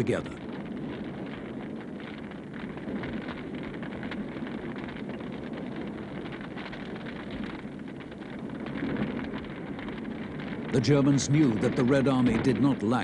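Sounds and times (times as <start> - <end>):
rumbling crackling battle noise: 0.0 - 13.0.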